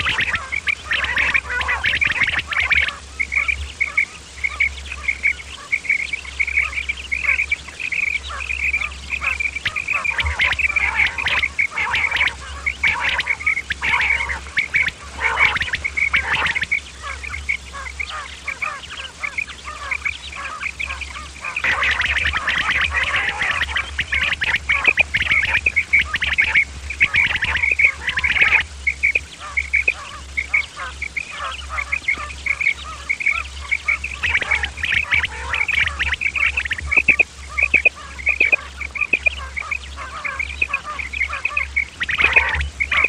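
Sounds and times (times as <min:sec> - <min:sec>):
quail rasping call: 0:00.0 - 0:43.0
steady low hum: 0:00.0 - 0:43.0.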